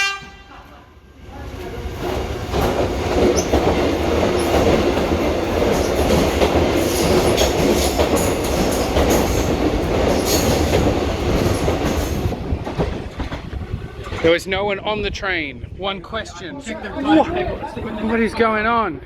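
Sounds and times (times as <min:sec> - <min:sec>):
electric train rumbling: 0:00.0 - 0:15.8.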